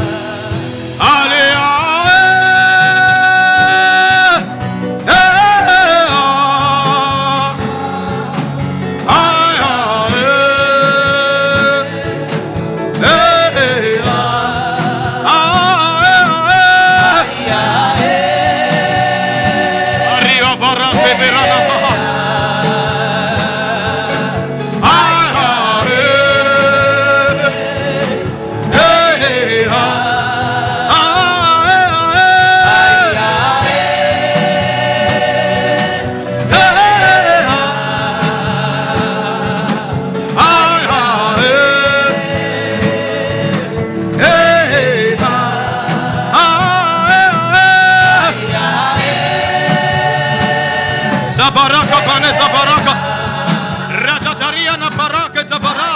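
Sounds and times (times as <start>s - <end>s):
gospel chant singing: 0.0s - 55.9s
instrumental backing: 0.0s - 55.9s.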